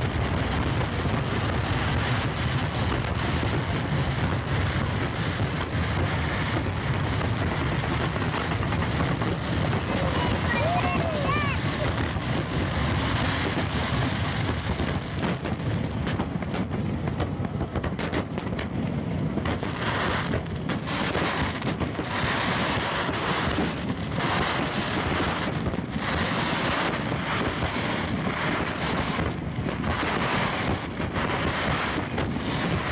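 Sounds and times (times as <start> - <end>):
fireworks bangs and crackling: 0.0 - 32.9
wind noise on microphone: 0.0 - 32.9.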